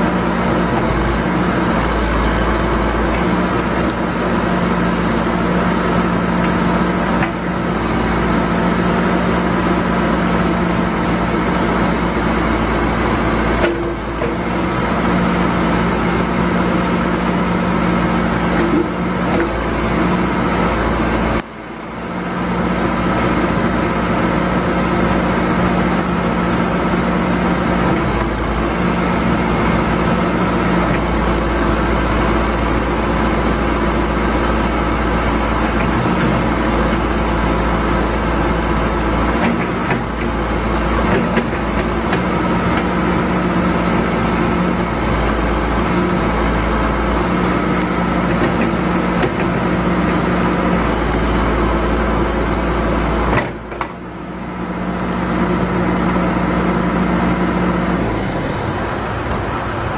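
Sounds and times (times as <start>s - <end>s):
diesel engine under hydraulic load: 0.0s - 59.9s.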